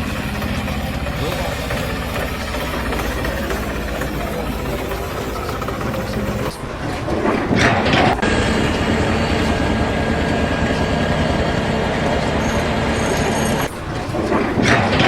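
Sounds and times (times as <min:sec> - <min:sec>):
heavy machinery engine rumble: 0:00.0 - 0:15.0
loud rushing noise: 0:00.0 - 0:15.0.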